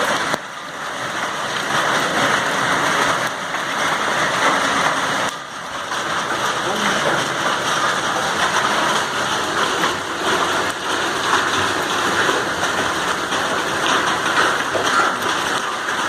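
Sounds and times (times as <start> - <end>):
rain pouring: 0.0 - 16.0.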